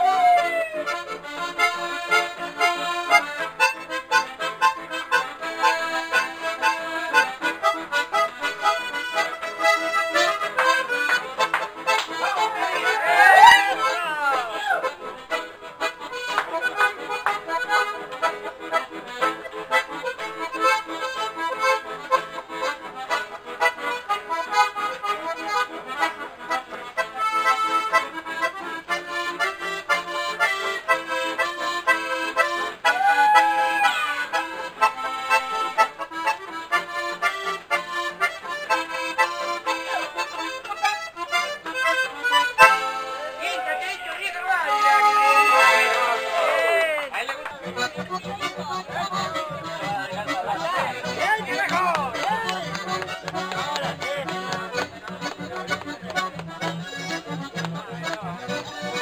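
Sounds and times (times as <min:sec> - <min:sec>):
accordions playing a tune: 0:00.0 - 0:59.0.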